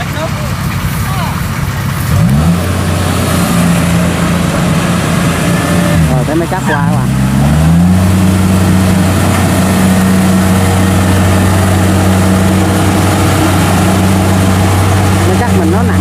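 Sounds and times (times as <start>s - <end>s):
diesel engine under load: 0.0s - 16.0s
tracks pushing through mud: 0.0s - 16.0s.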